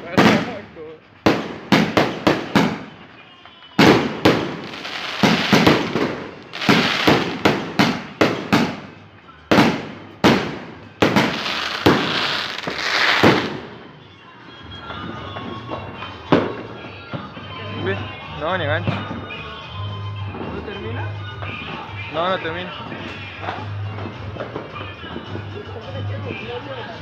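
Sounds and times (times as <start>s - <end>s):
fireworks and firecrackers banging: 0.0s - 18.1s, 18.7s - 19.5s, 20.2s - 22.0s, 22.7s - 26.5s.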